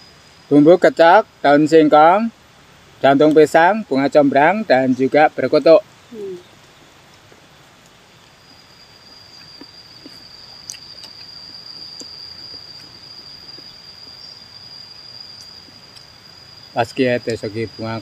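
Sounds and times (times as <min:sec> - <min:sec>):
insect high-pitched trill: 0:00.0 - 0:18.0.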